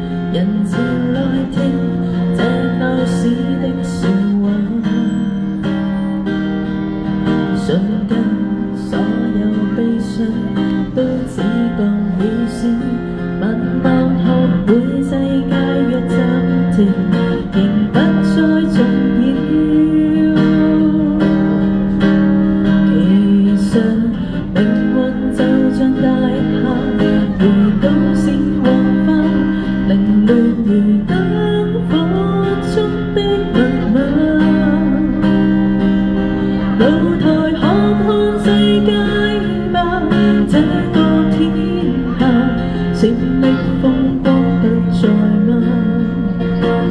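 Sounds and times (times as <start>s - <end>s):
acoustic guitar strumming: 0.0s - 46.9s
woman singing: 0.0s - 46.9s.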